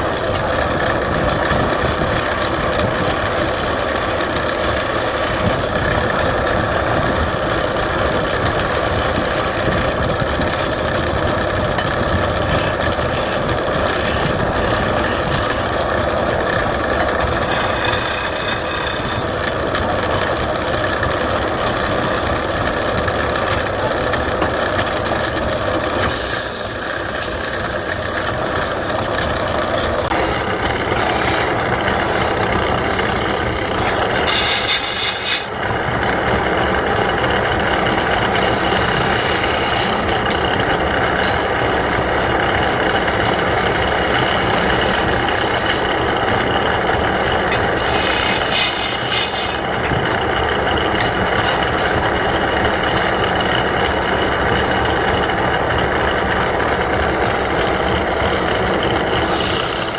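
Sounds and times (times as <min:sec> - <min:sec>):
wood lathe tool scraping wood: 0:00.8 - 0:22.9, 0:24.3 - 0:53.6, 0:57.2 - 0:59.9.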